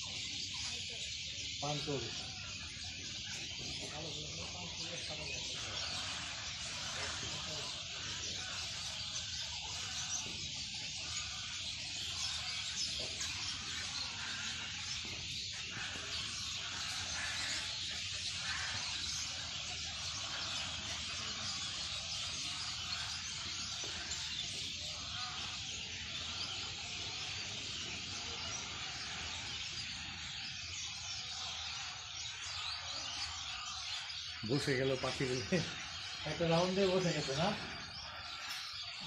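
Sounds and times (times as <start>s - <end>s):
flock of birds chattering: 0.0s - 39.0s.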